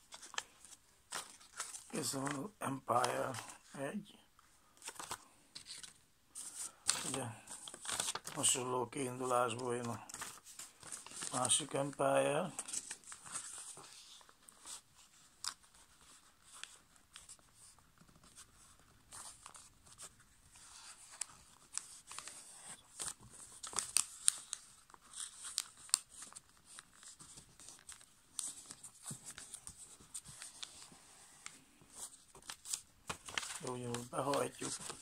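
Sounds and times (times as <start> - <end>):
paper folding and crinkling: 0.0 - 35.0.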